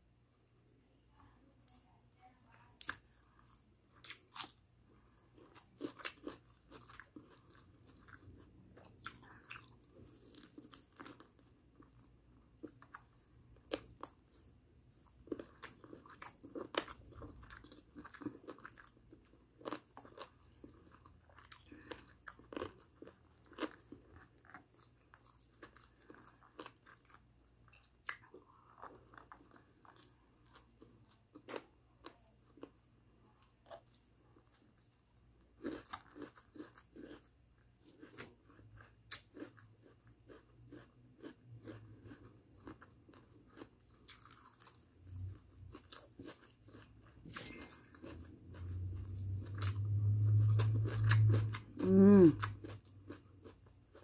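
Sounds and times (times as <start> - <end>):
person chewing: 2.8 - 54.0.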